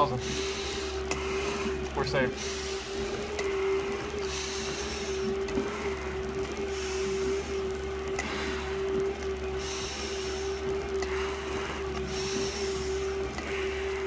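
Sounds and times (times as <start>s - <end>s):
breathing through a respirator: 0.0s - 7.5s, 8.2s - 14.0s
steady machine hum: 0.0s - 14.0s.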